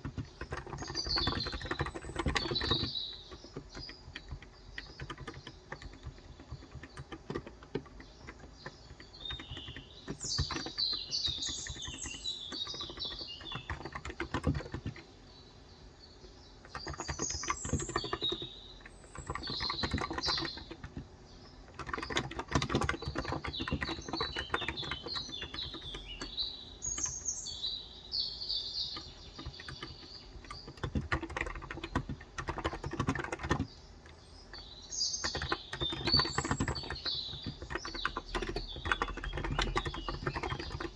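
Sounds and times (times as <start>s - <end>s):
typing on keyboard: 0.0s - 15.2s, 16.6s - 27.3s, 28.8s - 40.9s
small birds chirping: 0.0s - 40.9s.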